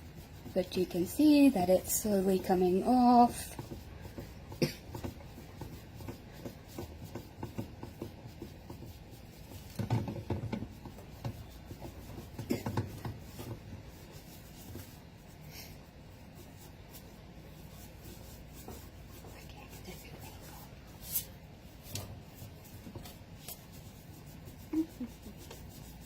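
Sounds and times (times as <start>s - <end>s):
wet cloth scrubbing: 0.0s - 26.0s.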